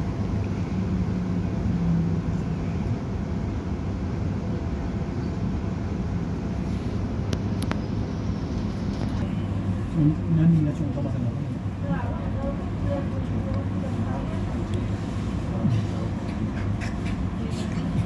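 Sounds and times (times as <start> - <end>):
faint hum: 0.0 - 18.0
train interior rumble: 0.0 - 18.0.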